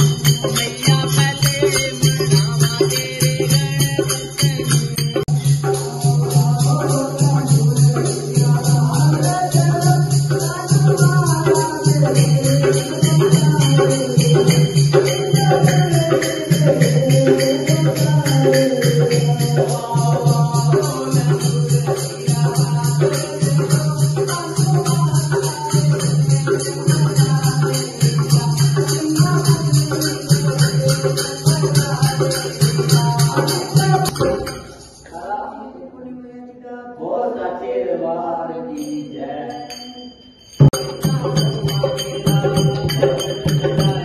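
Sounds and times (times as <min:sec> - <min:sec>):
jingling hand percussion: 0:00.0 - 0:35.3, 0:38.6 - 0:44.0
voices singing: 0:00.0 - 0:44.0.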